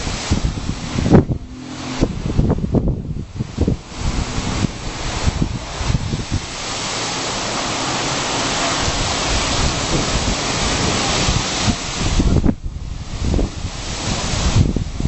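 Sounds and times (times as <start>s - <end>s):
rain hissing: 0.0s - 15.0s
wind buffeting microphone: 0.0s - 15.0s.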